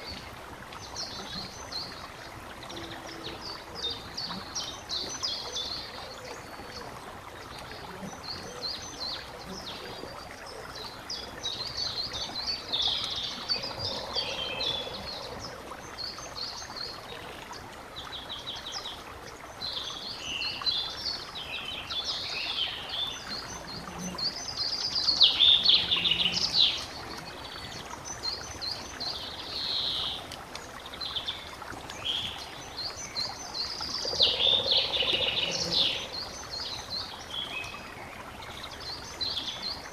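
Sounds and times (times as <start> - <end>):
songbirds singing and chirping: 0.0 - 39.9
stream rushing: 0.0 - 39.9.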